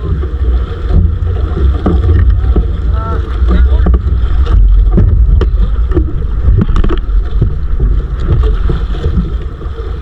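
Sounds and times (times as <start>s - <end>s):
boat motor running: 0.0s - 10.0s
wind rumbling on microphone: 0.0s - 10.0s.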